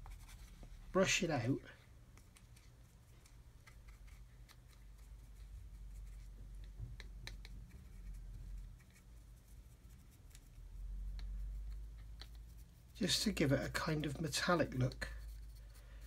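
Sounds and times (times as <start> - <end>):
paintbrush scratching: 0.0 - 1.6, 2.2 - 16.0.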